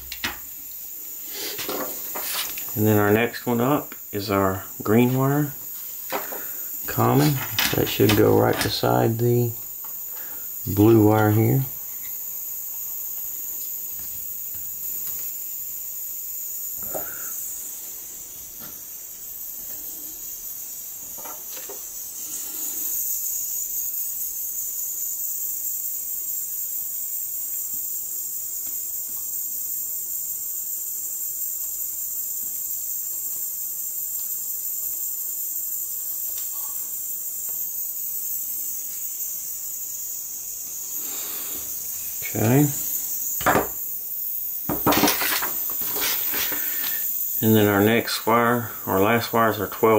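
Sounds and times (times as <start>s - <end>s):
soldering iron hissing: 0.0s - 49.9s.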